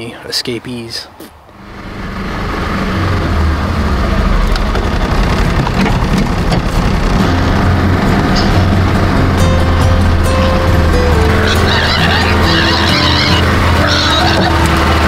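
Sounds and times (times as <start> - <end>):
low engine drone: 1.5 - 15.0.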